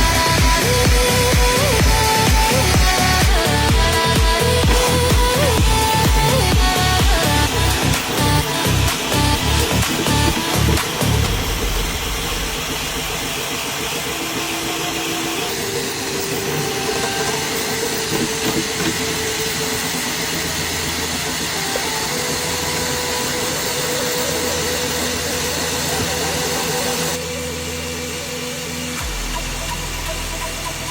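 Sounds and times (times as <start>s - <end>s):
printer fan hiss: 0.0s - 30.9s
stepper motor tones: 0.0s - 30.9s.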